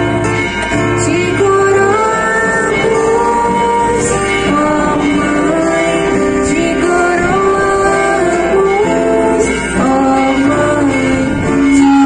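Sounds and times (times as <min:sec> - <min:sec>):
song with instrumental accompaniment: 0:00.0 - 0:12.0.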